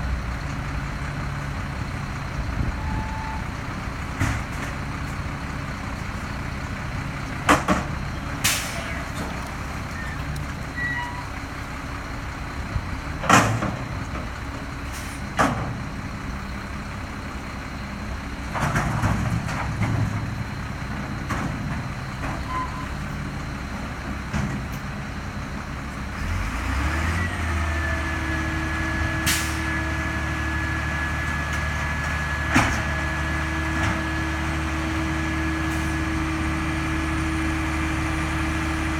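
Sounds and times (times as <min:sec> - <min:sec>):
garbage truck running: 0:00.0 - 0:38.9.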